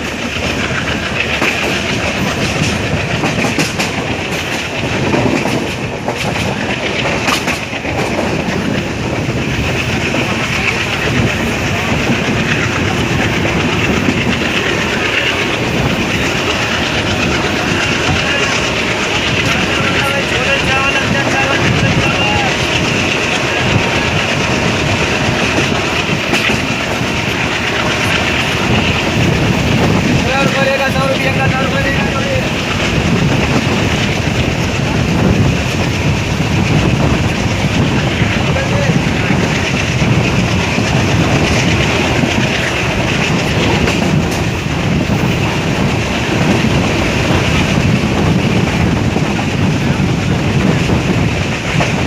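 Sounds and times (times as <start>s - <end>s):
clickety-clack of wheels: 0.0s - 52.0s
train wheels rumbling on rails: 0.0s - 52.0s.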